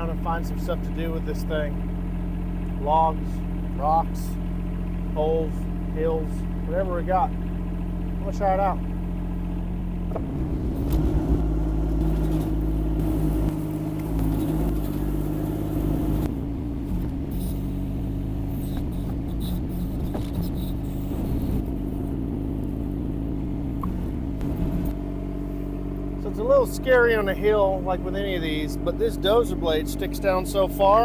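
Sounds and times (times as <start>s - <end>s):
diesel excavator engine running: 0.0s - 31.0s.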